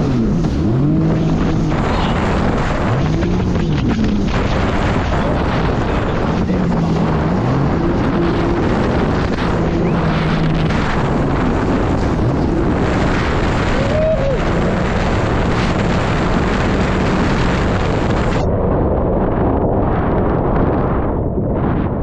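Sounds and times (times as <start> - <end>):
jet ski engine drone: 0.0 - 21.0
wind and spray rush: 0.0 - 22.0.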